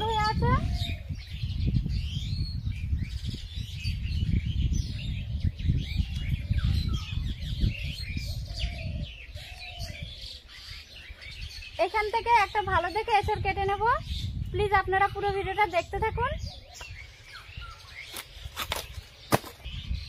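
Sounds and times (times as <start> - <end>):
small birds chirping: 0.0 - 20.0
wind rumble on microphone: 0.0 - 20.0.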